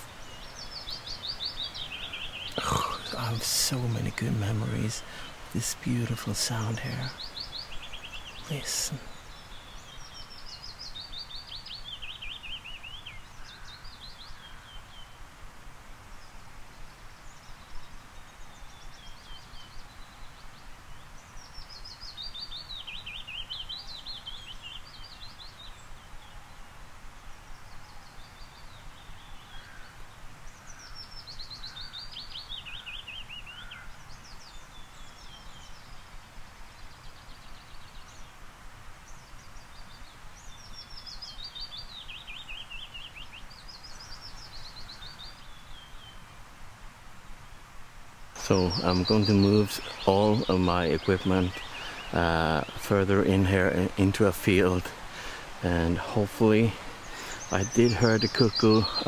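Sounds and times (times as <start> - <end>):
bird singing: 0.0 - 15.4, 16.0 - 46.6, 48.3 - 59.0.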